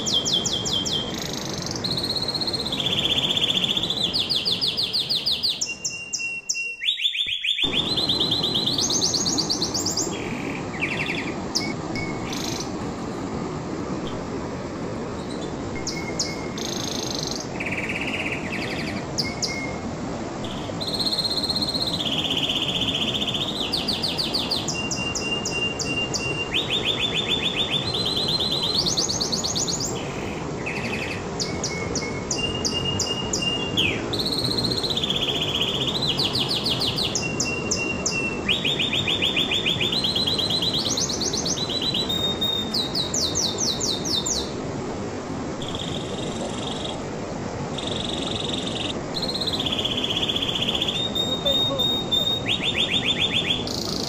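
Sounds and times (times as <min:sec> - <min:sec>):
canary singing: 0:00.0 - 0:12.8, 0:15.2 - 0:44.5, 0:47.7 - 0:54.0
low background hiss: 0:00.0 - 0:54.0.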